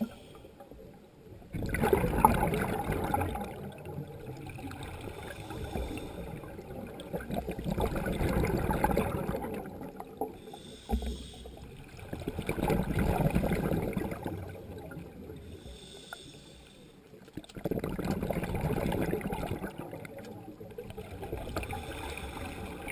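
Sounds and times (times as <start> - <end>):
exhaled bubbles rumbling underwater: 0.0 - 16.2, 17.2 - 22.9.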